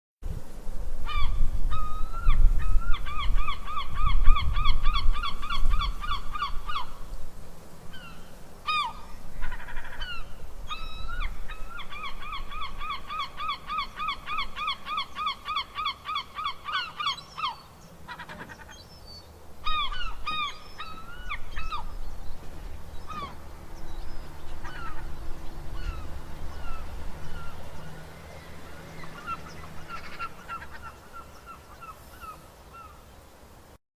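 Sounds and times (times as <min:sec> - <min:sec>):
seagulls calling: 0:01.1 - 0:07.1, 0:07.9 - 0:33.0.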